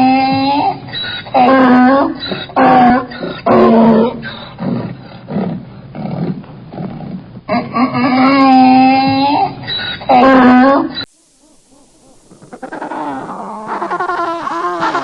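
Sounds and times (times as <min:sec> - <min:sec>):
animal calling: 0:00.0 - 0:04.9, 0:07.5 - 0:15.0.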